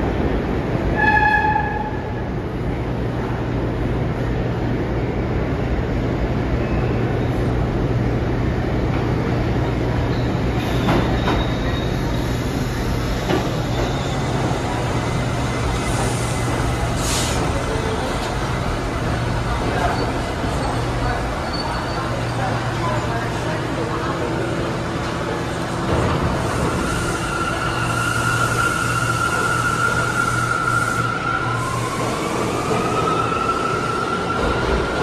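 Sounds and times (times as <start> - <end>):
subway train rumble: 0.0 - 35.0.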